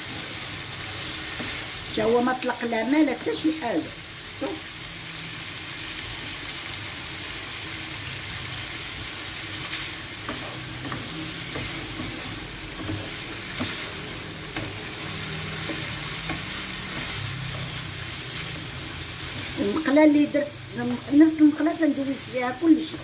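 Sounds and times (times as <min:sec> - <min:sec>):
food sizzling in frying pan: 0:00.0 - 0:23.0.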